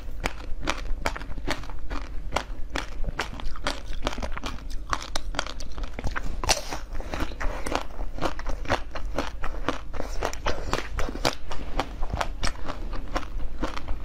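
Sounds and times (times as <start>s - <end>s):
teeth crunching ice: 0.0s - 14.0s.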